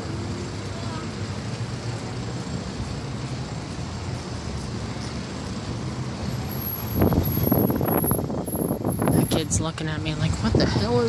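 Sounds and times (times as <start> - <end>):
bicycle rolling on concrete: 0.0 - 11.0
road traffic: 0.0 - 11.0.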